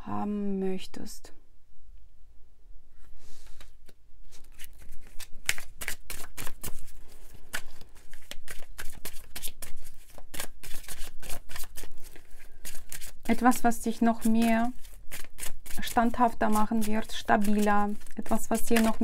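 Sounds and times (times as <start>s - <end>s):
cards being shuffled: 3.4s - 19.0s.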